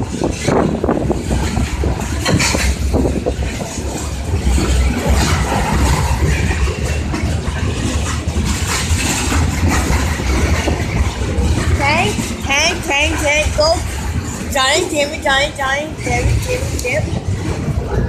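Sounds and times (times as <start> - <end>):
constant rushing noise: 0.0 - 18.0
low vehicle rumble: 0.0 - 18.0.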